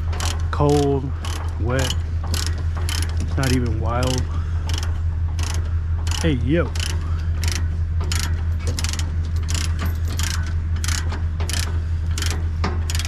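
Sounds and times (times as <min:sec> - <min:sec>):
machinery low hum: 0:00.0 - 0:13.0
metallic clicks and clanks: 0:00.0 - 0:13.0.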